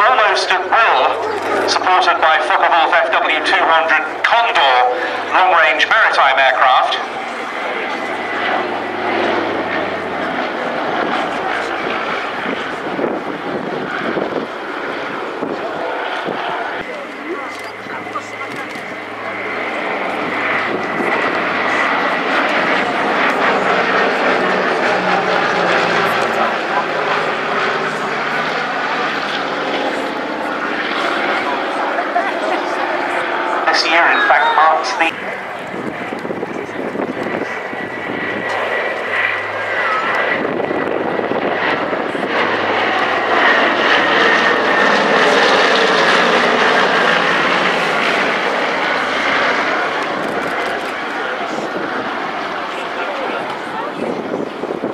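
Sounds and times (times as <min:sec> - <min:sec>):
propeller plane flying overhead: 0:00.0 - 0:54.9.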